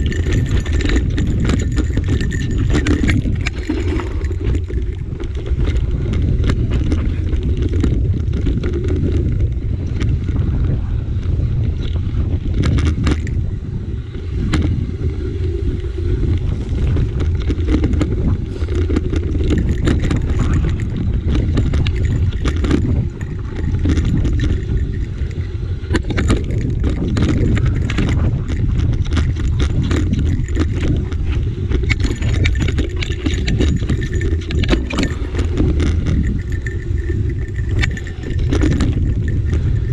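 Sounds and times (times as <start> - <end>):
bike clattering and rattling over rocks: 0.0 - 39.9
low wind rumble on microphone: 0.0 - 39.9.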